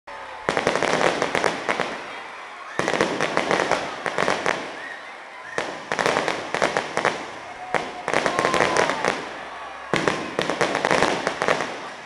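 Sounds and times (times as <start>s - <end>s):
fireworks bursting: 0.3s - 12.0s.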